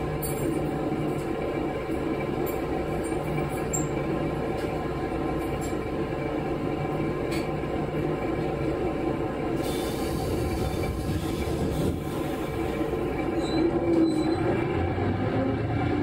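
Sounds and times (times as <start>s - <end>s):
diesel railcar engine hum: 0.0s - 16.0s.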